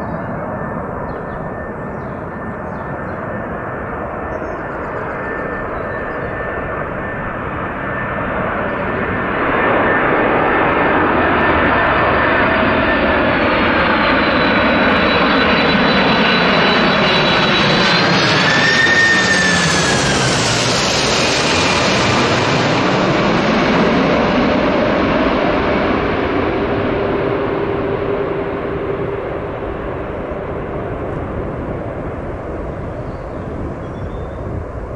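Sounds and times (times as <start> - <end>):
jet airliner engines passing: 0.0 - 34.9.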